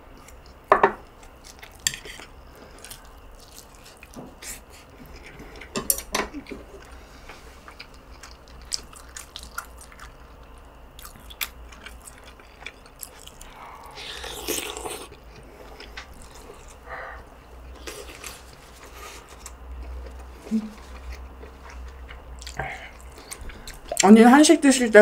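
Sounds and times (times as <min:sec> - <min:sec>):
chewing: 0:01.2 - 0:05.7, 0:06.4 - 0:16.9, 0:17.7 - 0:24.0.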